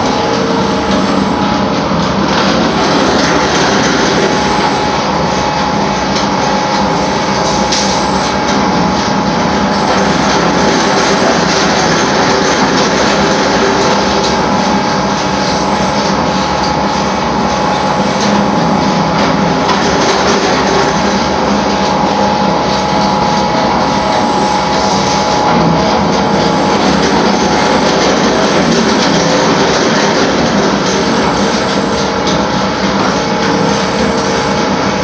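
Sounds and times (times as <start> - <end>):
machine running with high whine: 0.0 - 35.0.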